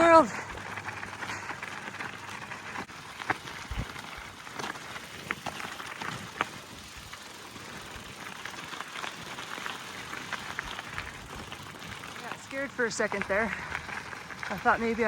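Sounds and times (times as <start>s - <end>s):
bike tyres rolling on dirt: 0.0s - 15.0s
wheels clicking over stones: 0.0s - 15.0s.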